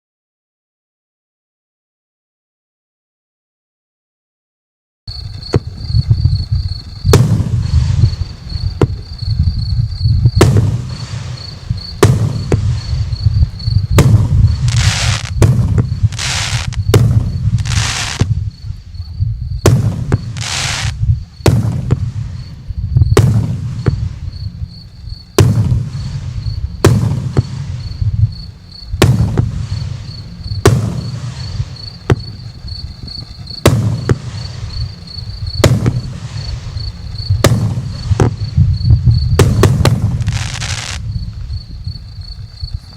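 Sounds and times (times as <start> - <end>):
firework hissing bursts: 5.1 - 19.0, 19.6 - 42.6
deep rumble: 5.1 - 40.4, 41.0 - 42.9
firework bangs: 5.1 - 41.5.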